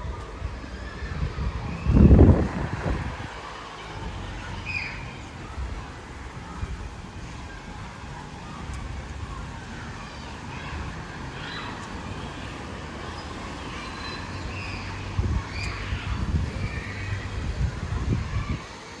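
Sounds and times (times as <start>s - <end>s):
low traffic rumble: 0.0s - 19.0s
tyres on wet asphalt: 0.0s - 19.0s.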